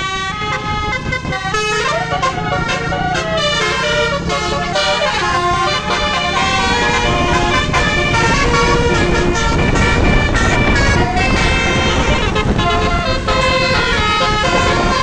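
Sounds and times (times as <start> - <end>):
bus engine rumble: 0.0 - 15.0
bus horns playing a tune: 0.0 - 15.0.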